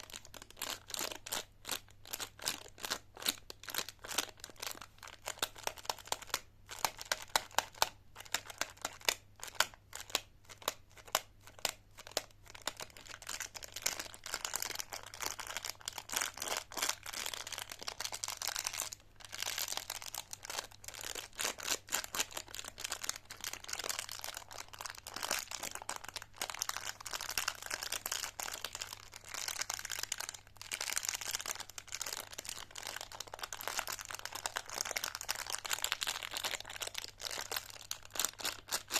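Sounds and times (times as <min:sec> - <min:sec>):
plastic wrappers crinkling: 0:00.0 - 0:38.9.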